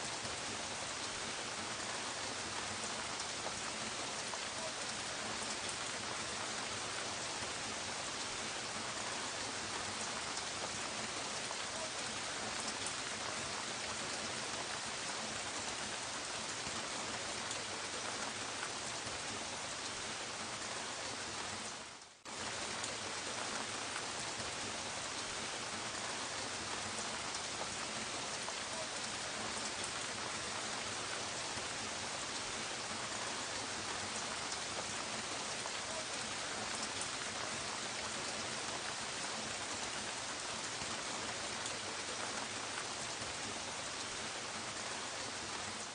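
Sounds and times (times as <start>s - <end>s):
soft rain falling: 0.0s - 45.9s.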